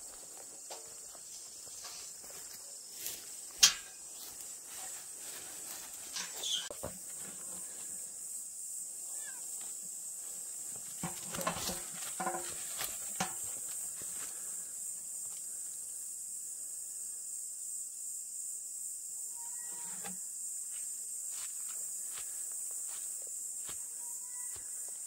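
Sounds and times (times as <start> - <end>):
high-pitched outdoor hiss: 0.0 - 25.0.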